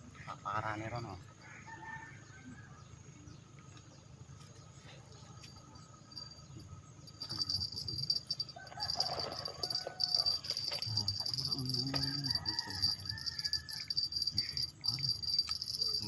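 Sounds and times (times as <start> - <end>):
insects trilling: 0.1 - 16.0.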